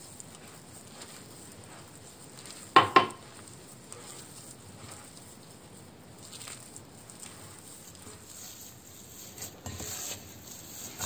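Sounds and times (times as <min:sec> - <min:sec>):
hand rubbing dough in a bowl: 0:00.0 - 0:11.0.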